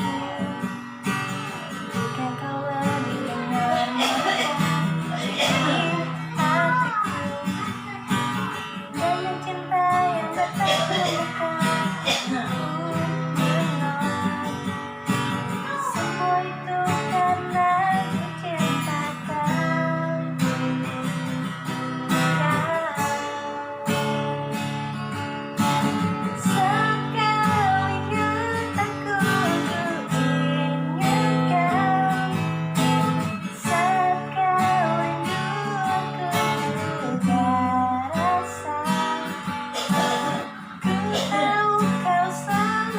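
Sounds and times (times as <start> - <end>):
strummed acoustic guitar: 0.0 - 42.9
woman singing: 0.0 - 42.9.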